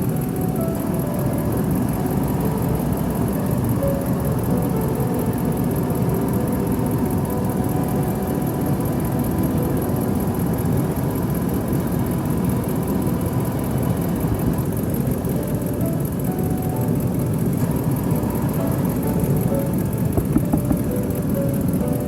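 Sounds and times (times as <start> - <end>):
air conditioning running: 0.0 - 22.0
truck engine idling: 0.0 - 22.0.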